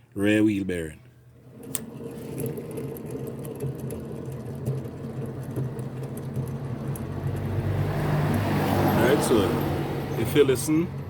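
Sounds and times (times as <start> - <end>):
low mechanical hum: 0.8 - 11.0.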